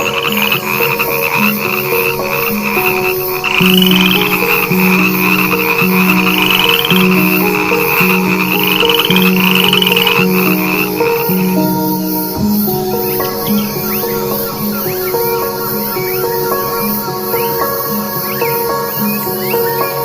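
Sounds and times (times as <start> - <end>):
frog pulsed trill: 0.0 - 19.7.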